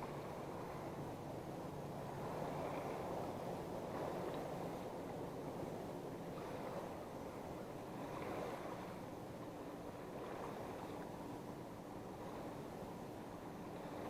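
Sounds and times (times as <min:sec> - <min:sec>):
water lapping against boat: 0:00.0 - 0:14.0
wind: 0:00.0 - 0:14.0.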